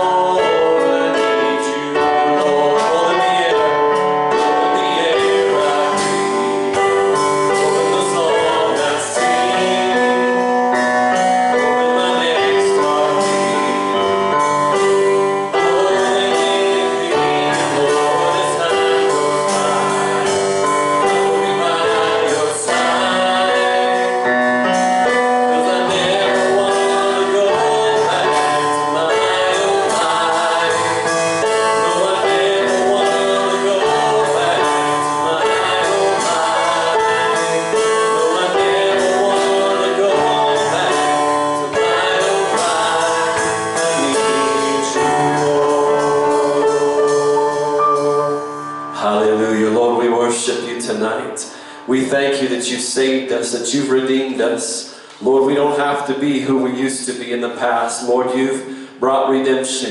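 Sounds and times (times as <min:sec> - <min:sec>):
keyboard accompaniment: 0:00.0 - 0:59.9
voices singing gospel song: 0:00.0 - 0:59.9.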